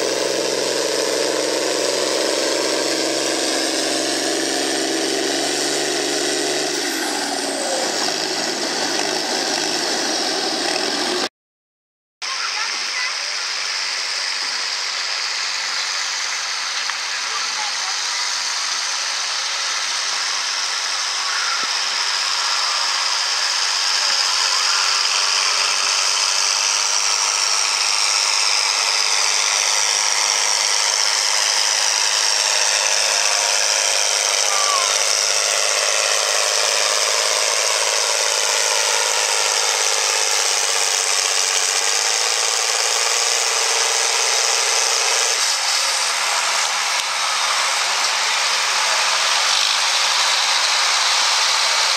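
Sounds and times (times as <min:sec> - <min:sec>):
tractor diesel engine under load: 0:00.0 - 0:11.3, 0:12.2 - 0:51.9.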